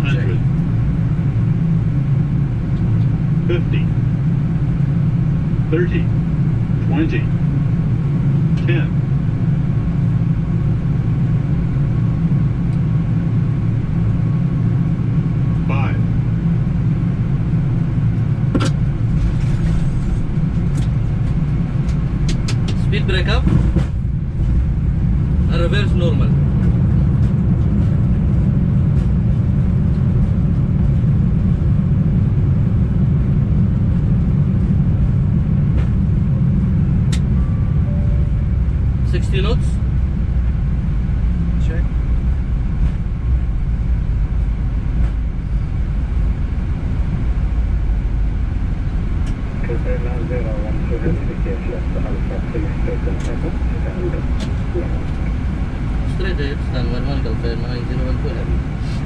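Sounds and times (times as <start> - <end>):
low rumble of airflow and engines: 0.0 - 59.0.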